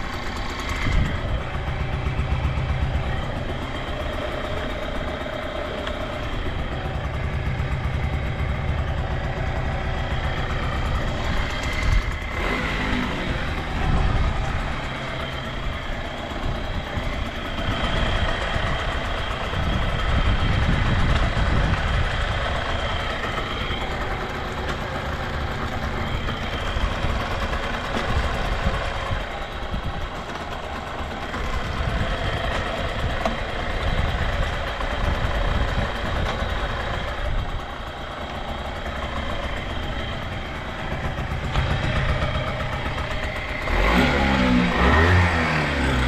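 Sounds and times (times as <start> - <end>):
two-stroke engine idling: 0.0 - 46.0.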